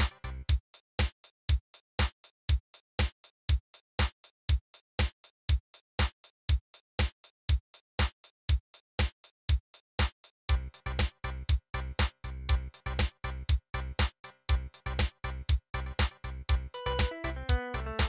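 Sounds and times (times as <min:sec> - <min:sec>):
drum machine beat: 0:00.0 - 0:10.2, 0:10.8 - 0:18.0.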